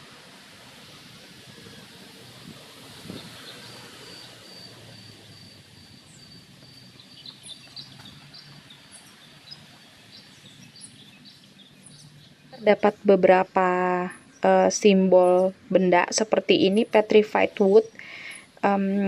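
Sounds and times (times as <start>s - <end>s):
outdoor hum and hiss: 0.0s - 19.0s
birds chirping: 1.5s - 19.0s.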